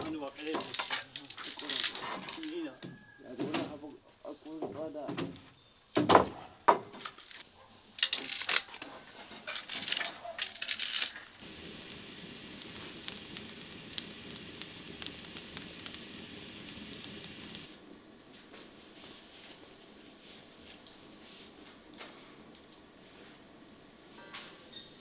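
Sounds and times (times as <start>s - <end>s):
wood fire crackling: 0.0s - 2.9s, 7.0s - 25.0s.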